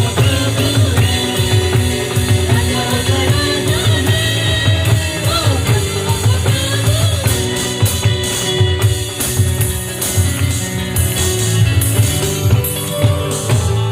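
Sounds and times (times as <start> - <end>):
bass guitar: 0.0 - 13.9
drum kit: 0.0 - 13.9
guitar: 0.0 - 13.9.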